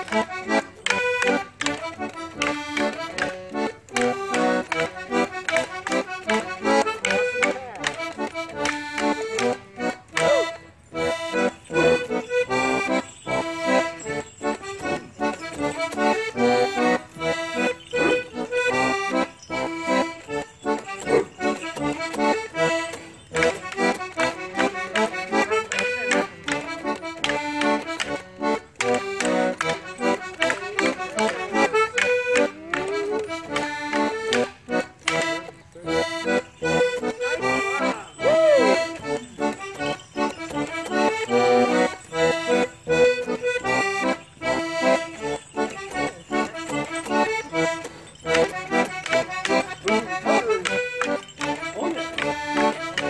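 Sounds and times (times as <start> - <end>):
accordion playing lively dance tune: 0.0 - 53.0.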